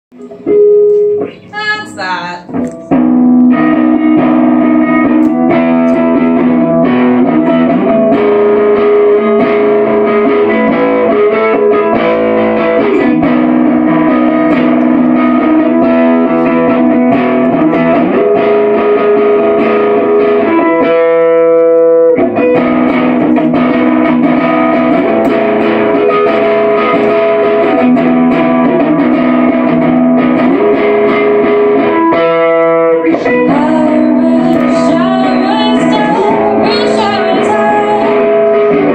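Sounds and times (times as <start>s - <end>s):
distorted electric guitar chords: 0.1s - 38.9s.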